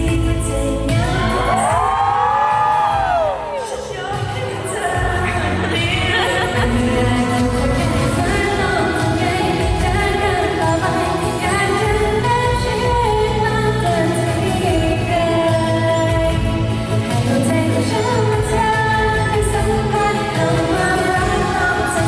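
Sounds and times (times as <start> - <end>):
backing track with bass line: 0.0 - 22.0
woman singing pop song: 0.0 - 22.0.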